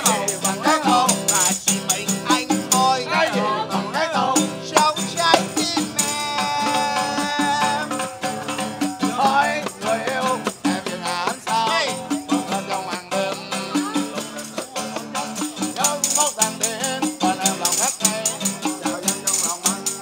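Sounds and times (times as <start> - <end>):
acoustic guitar strumming: 0.0 - 20.0
person singing: 0.0 - 20.0
tambourine jingling: 0.0 - 20.0.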